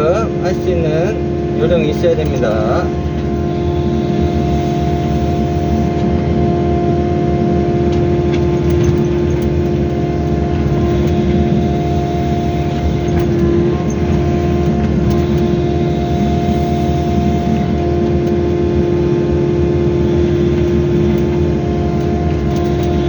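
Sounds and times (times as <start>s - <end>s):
diesel engine running: 0.0s - 23.0s
steady whine: 0.0s - 23.0s.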